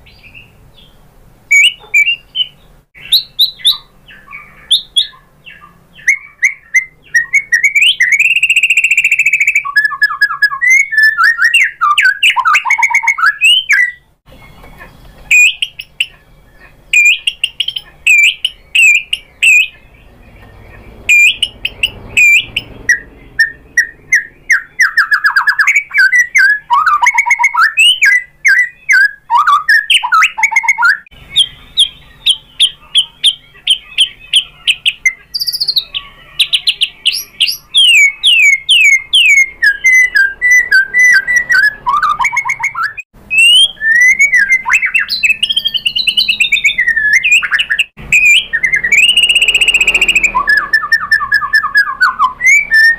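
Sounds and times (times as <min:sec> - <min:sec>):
bird singing whistles and trills: 0:00.0 - 0:52.9.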